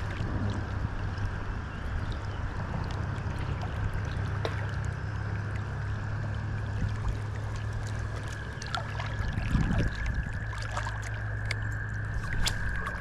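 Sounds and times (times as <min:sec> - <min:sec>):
creek water running and splashing: 0:00.0 - 0:13.0
water sloshing: 0:00.0 - 0:13.0.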